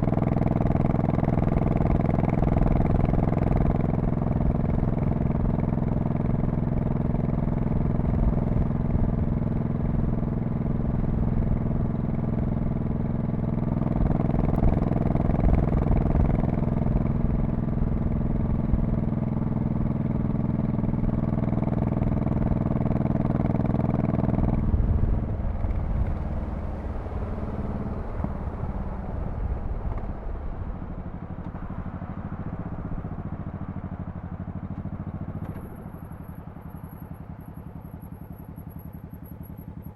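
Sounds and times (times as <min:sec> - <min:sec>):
motorcycle exhaust rumble: 0:00.0 - 0:39.9.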